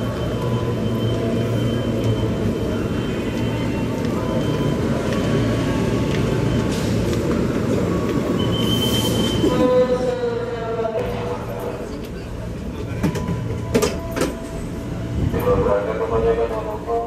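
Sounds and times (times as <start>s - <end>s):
train rumbling on board: 0.0s - 17.0s.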